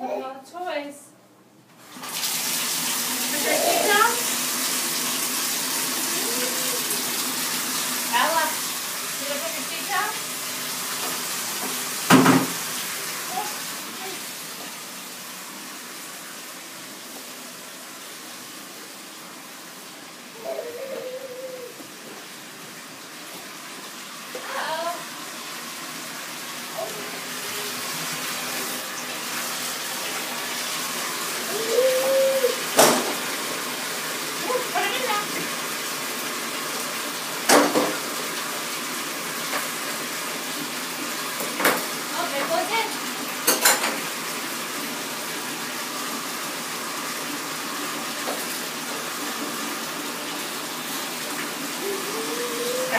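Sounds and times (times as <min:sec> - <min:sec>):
water running into bathtub: 0:01.8 - 0:52.9.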